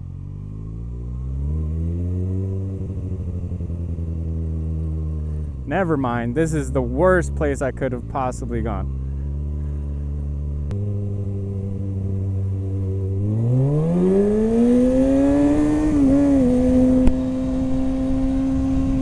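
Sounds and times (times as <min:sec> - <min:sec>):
motorcycle engine accelerating: 0:00.0 - 0:19.0
road and wind noise: 0:00.0 - 0:19.0.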